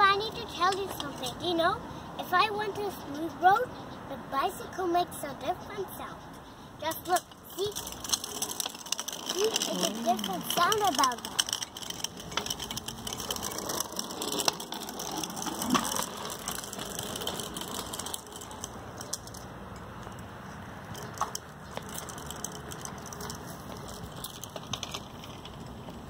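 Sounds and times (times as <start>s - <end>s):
bicycle rattling on pavement: 0.0s - 3.7s, 6.8s - 26.0s.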